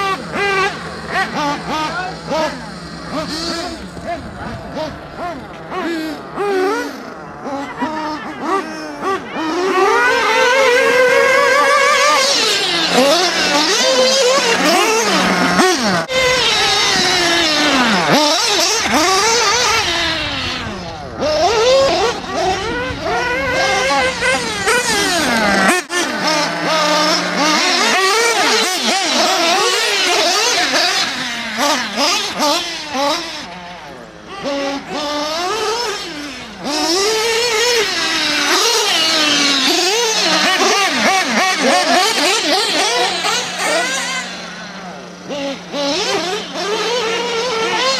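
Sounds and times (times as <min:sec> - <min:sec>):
rc car motors whining: 0:00.0 - 0:47.9.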